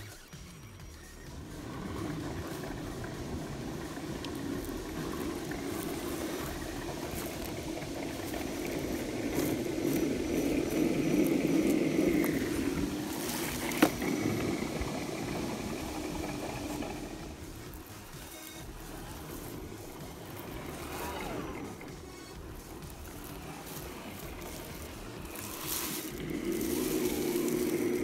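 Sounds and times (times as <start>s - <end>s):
electric motor and gear drive: 0.0s - 28.0s.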